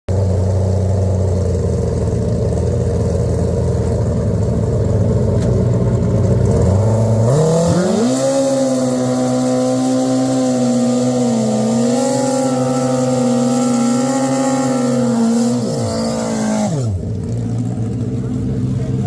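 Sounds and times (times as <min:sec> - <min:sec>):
motorcycle engine revving: 0:00.1 - 0:19.0.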